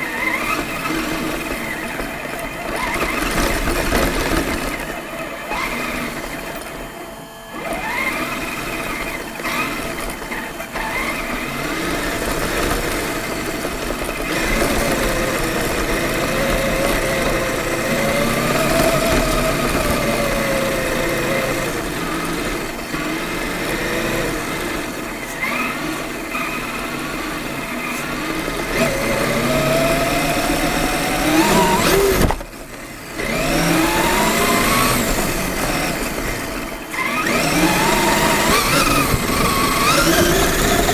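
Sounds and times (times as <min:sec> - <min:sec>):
electric toy truck motor whining: 0:00.0 - 0:40.9.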